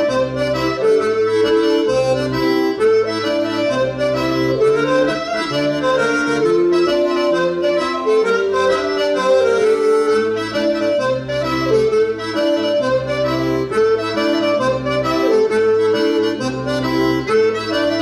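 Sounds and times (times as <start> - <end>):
accordion dance tune: 0.0 - 18.0.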